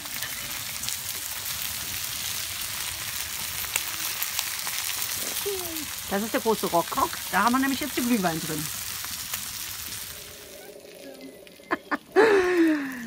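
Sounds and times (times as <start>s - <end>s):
meat sizzling in a grill pan: 0.0s - 12.9s.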